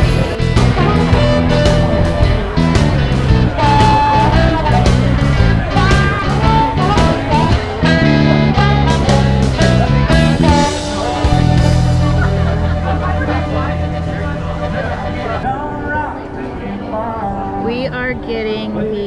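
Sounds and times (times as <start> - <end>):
rock music with lead guitar: 0.0 - 15.5.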